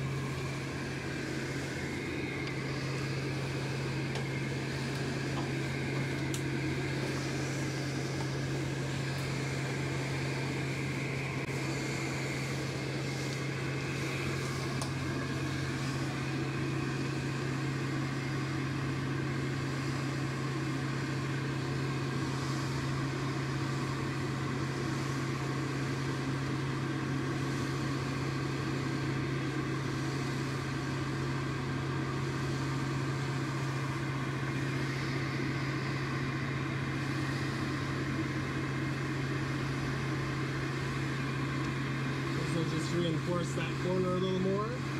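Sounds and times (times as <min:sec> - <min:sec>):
electric air blower drone: 0:00.0 - 0:44.9.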